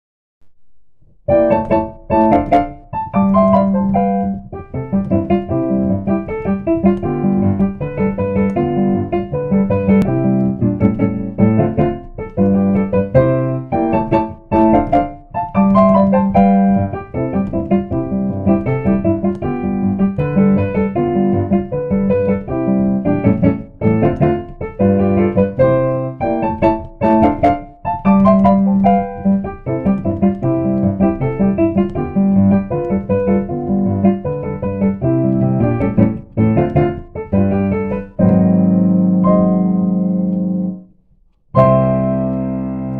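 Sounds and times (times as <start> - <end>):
piano playing: 0.5 - 42.9.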